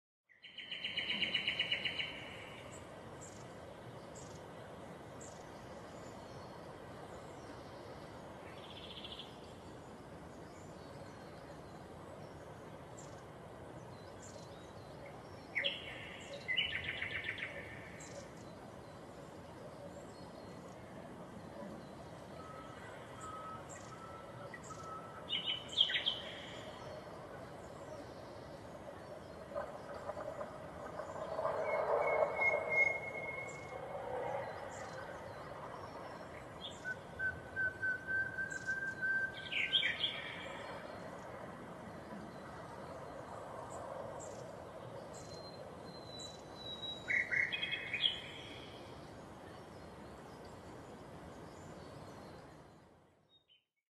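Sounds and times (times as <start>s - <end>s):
outdoor background hiss: 0.3s - 53.6s
birds chirping: 0.4s - 53.6s.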